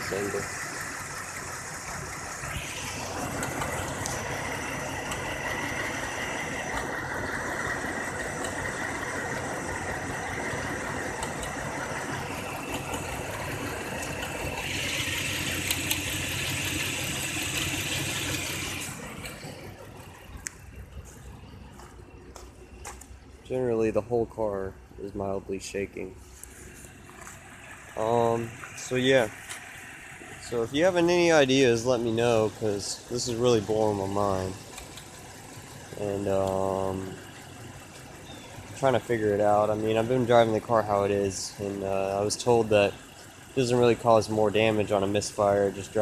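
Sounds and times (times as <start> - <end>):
car engine idling with misfire: 0.0 - 46.0.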